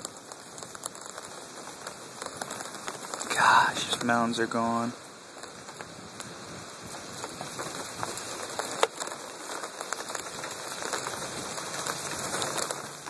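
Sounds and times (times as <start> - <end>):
light rain hissing: 0.0 - 13.0
raindrops ticking: 0.0 - 13.0.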